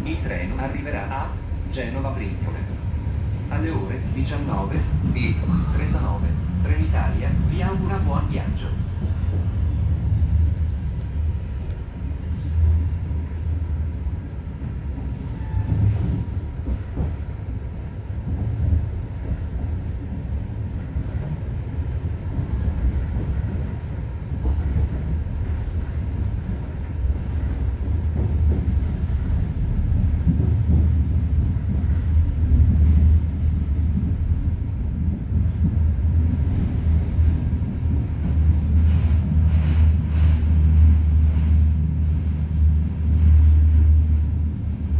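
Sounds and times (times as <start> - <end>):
train rattles and clicks: 0.0 - 44.9
train rumbling: 0.0 - 44.9.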